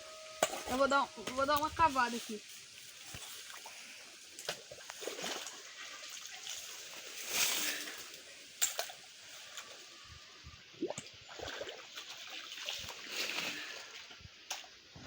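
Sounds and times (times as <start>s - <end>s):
water sloshing and splashing: 0.4s - 9.8s, 10.7s - 15.0s.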